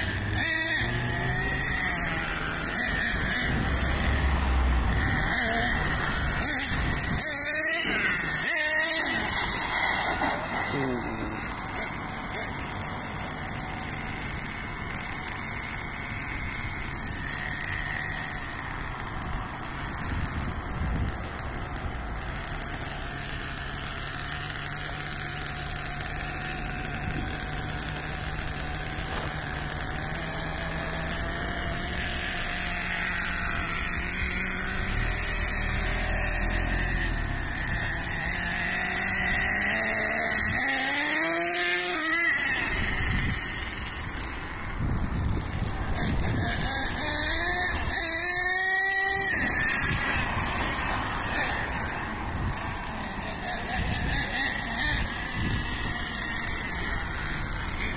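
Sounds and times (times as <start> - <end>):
model truck engine revving: 0.0 - 57.9.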